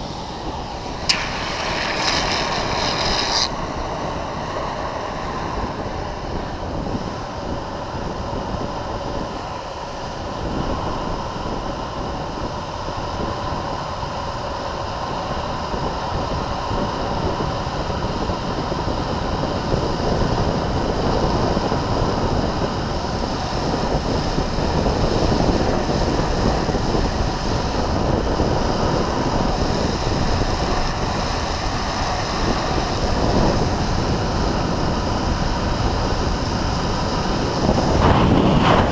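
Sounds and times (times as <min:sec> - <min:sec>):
skateboard wheels rolling on asphalt: 0:00.0 - 0:15.7, 0:16.6 - 0:38.9
wind rushing over microphone: 0:00.0 - 0:38.9.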